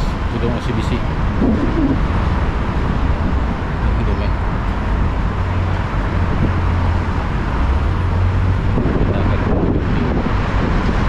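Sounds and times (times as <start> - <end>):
city road traffic: 0.0 - 11.0.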